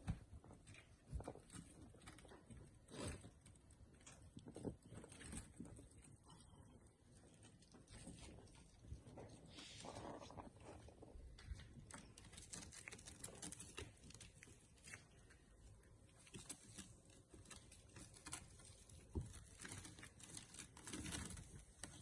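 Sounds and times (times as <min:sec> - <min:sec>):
kitten paws pattering: 0:00.0 - 0:22.0.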